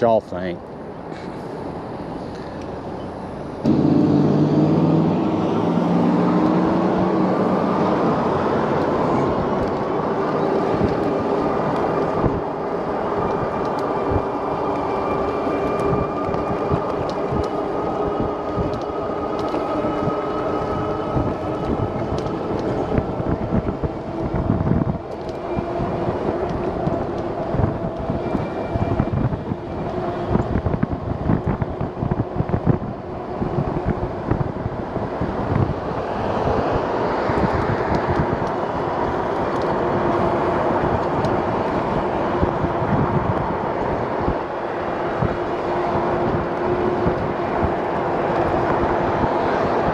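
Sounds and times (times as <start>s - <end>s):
tyre noise on road: 0.0s - 49.9s
wind noise: 1.0s - 49.9s
electric bike motor whine: 1.6s - 43.5s.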